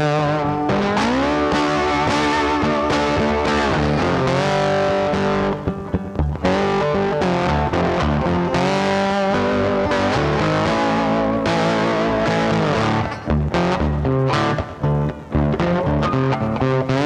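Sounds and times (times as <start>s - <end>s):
distorted electric guitar music: 0.0s - 17.0s.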